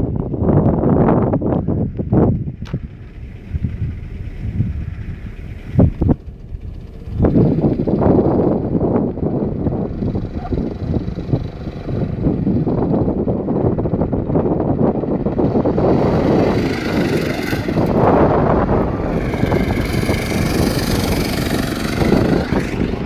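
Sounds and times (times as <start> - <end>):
go-kart engine revving: 2.6 - 23.0.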